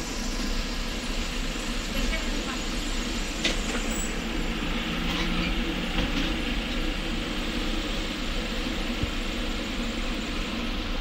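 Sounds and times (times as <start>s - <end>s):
street rumble and hiss: 0.0s - 11.0s.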